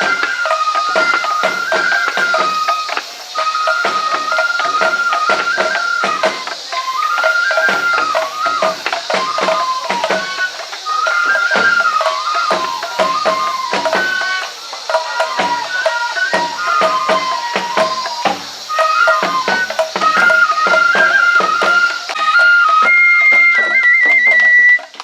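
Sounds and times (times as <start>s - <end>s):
bamboo flute melody: 0.0s - 25.0s
drum strikes: 0.0s - 25.0s.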